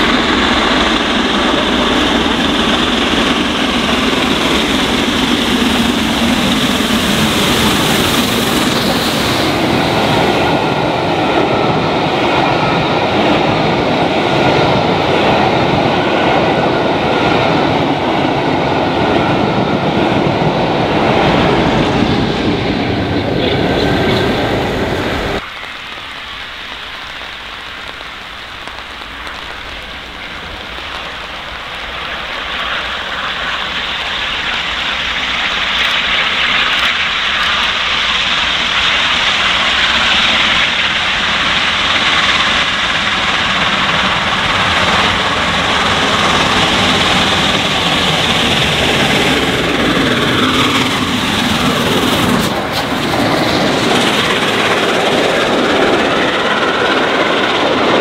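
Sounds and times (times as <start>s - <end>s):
steam locomotive exhaust: 0.0s - 58.0s
train rushing past: 0.0s - 58.0s.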